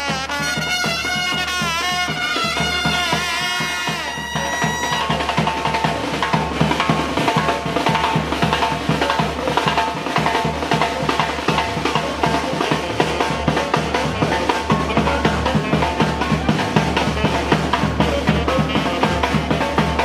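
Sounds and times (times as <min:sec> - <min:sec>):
bass drum and snare beat: 0:00.0 - 0:20.0
street band playing wavering notes: 0:00.0 - 0:20.0.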